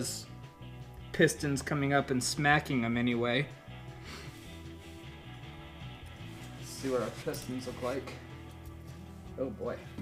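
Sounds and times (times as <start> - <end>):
quiet guitar music: 0.0 - 10.0.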